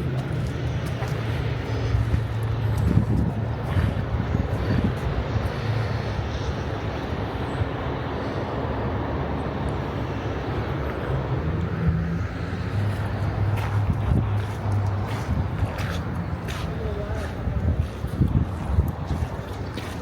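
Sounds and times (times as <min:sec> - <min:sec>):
low engine rumble: 0:00.0 - 0:20.0
outdoor noise: 0:00.0 - 0:20.0.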